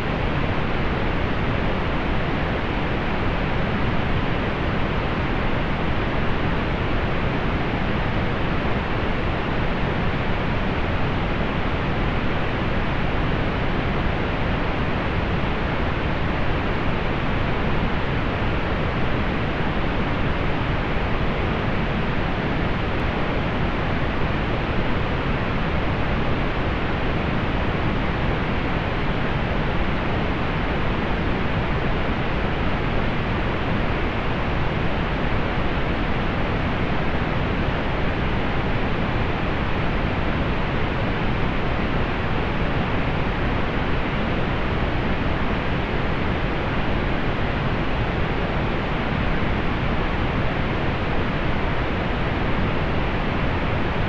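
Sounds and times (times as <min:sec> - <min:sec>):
soft pink noise hiss: 0:00.0 - 0:54.0.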